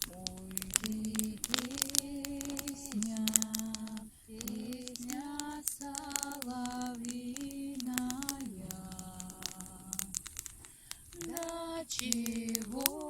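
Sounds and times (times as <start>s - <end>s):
woman singing slow melody: 0.0s - 10.4s, 11.1s - 13.0s
sharp clicks: 0.0s - 13.0s.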